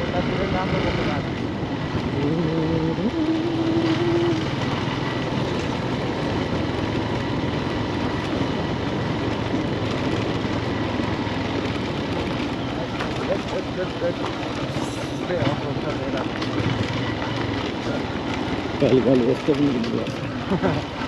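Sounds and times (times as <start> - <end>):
motorbike engine running: 0.0 - 21.0
wind and road noise: 0.0 - 21.0.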